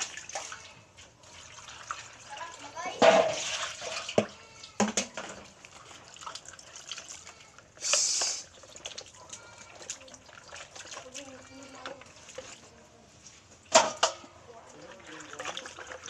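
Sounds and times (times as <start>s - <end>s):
meat being washed in water: 0.0s - 16.0s.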